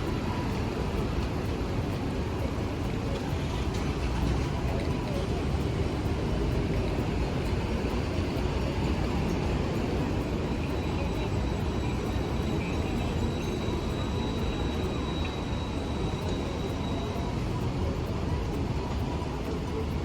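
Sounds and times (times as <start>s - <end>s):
city traffic and streetcars rumble: 0.0s - 20.0s.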